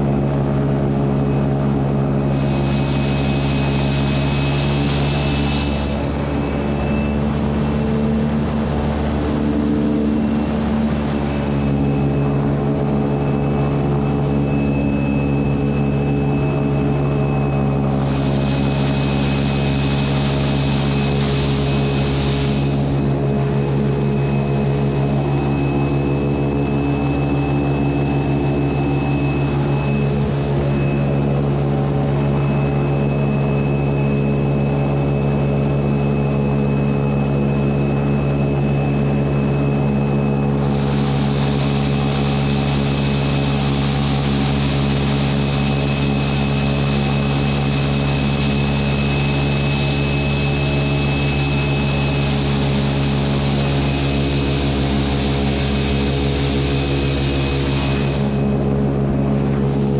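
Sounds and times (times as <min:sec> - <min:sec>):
airboat engine and propeller: 0:00.0 - 0:59.9
high whine: 0:00.0 - 0:59.9.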